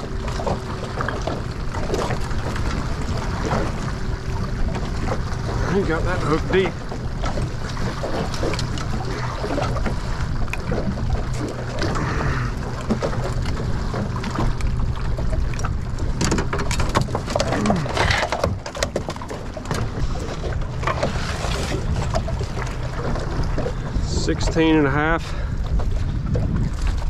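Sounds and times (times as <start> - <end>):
wind and water rumble: 0.0 - 27.0.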